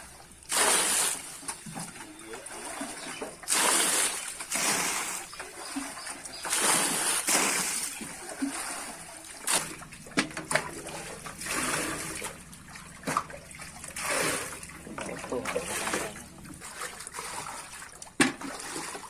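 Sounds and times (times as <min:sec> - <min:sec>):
water splashing from buckets: 0:00.0 - 0:19.0.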